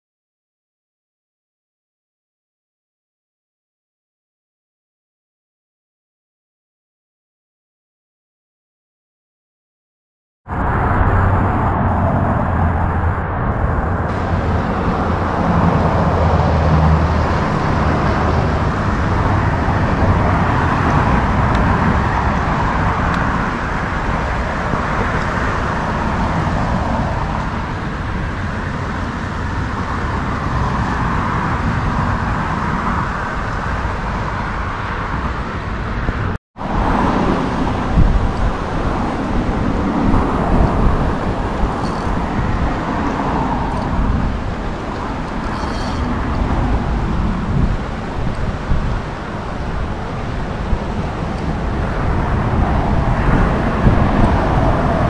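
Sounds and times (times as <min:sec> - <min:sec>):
road traffic noise: 0:10.5 - 0:55.0
wind rumble on microphone: 0:10.5 - 0:55.0.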